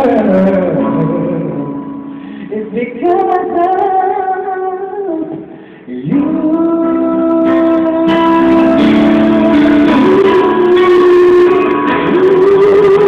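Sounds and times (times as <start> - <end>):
man singing a slow ballad: 0.0 - 1.8, 2.4 - 13.0
backing music: 0.0 - 13.0.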